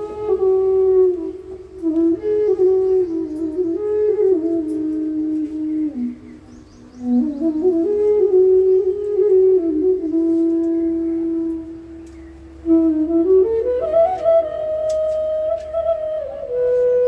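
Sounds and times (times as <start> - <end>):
wind instrument playing slow melody: 0.0 - 17.0.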